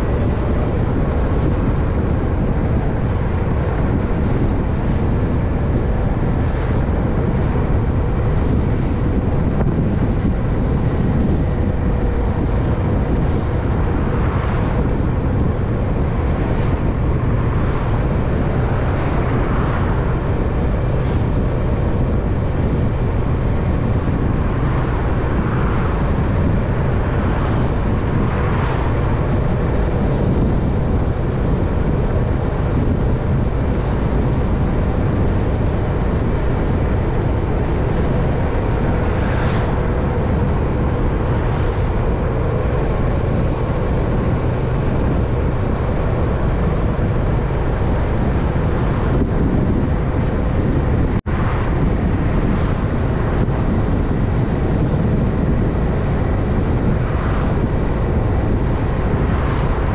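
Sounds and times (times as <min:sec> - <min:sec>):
bike road rumble: 0:00.0 - 0:59.9
wind rush: 0:00.0 - 0:59.9.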